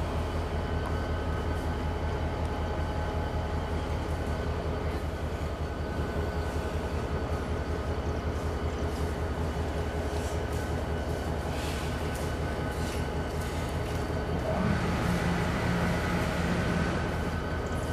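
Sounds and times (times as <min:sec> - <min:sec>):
diesel locomotive engine rumbling: 0:00.0 - 0:17.9
faint steady whine: 0:00.0 - 0:17.9.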